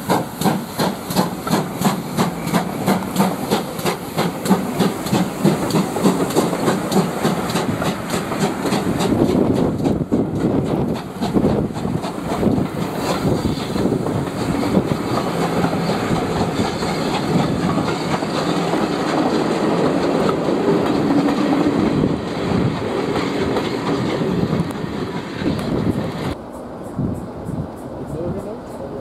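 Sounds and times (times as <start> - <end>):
wheels clicking over rail joints: 0.0 - 26.4
wheels rumbling on rails: 0.0 - 29.0.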